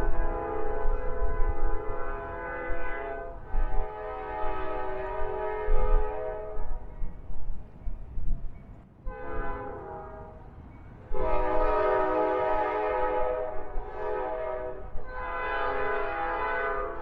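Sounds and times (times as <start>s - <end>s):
locomotive air horn: 0.0s - 6.8s, 9.1s - 10.4s, 11.1s - 17.0s.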